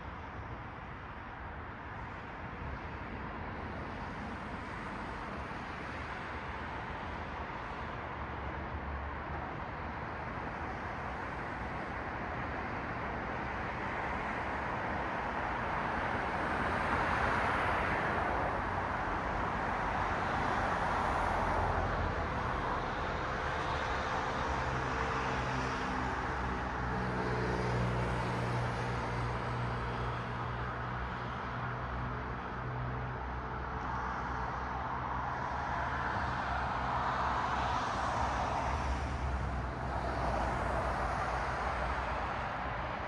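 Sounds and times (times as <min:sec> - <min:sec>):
cars passing with tyre noise: 0:00.0 - 0:43.0.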